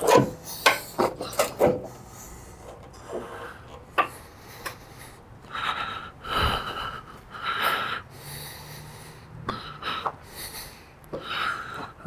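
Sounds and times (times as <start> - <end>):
man breathing hard: 0.4 - 12.0.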